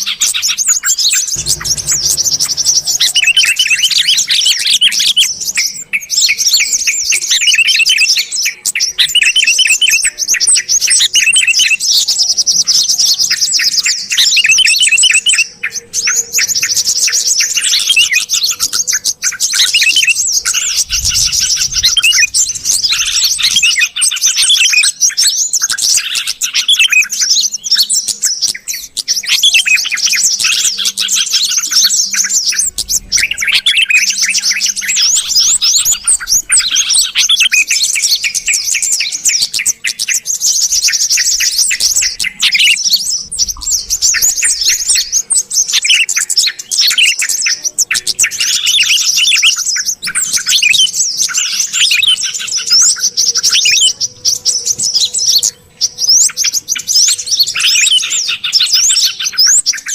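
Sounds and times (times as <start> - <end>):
bulbuls chirping and whistling: 0.0 - 59.9.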